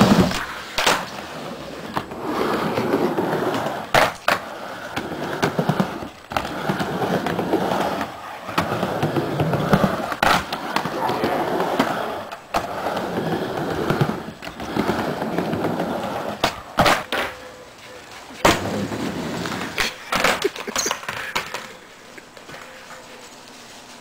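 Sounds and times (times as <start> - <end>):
skateboard rolling rumble: 0.0 - 23.2.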